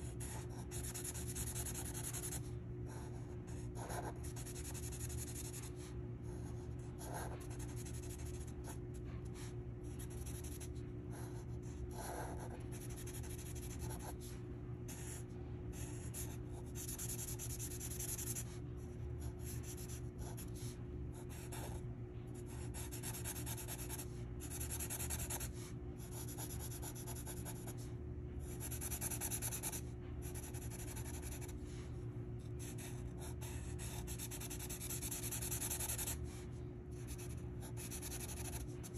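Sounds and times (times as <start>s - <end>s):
low background hum: 0.0s - 38.9s
marker scratching on paper: 0.2s - 15.2s, 15.8s - 18.6s, 22.6s - 27.8s, 28.6s - 31.8s, 32.6s - 36.4s, 37.0s - 38.7s.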